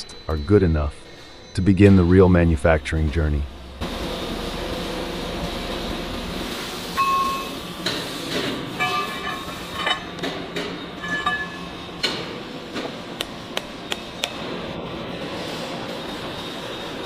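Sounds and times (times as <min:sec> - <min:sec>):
steady factory hum: 0:00.0 - 0:17.0.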